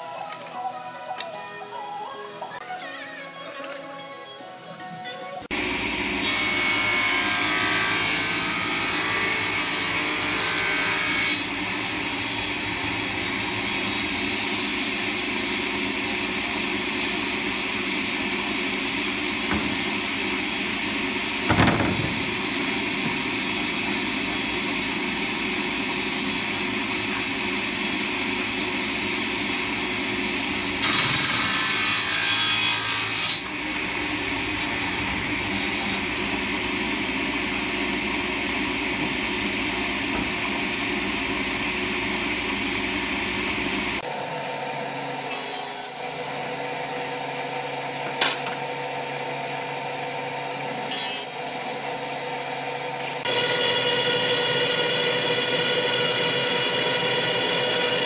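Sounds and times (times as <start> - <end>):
table saw cutting wood: 5.5 - 58.0.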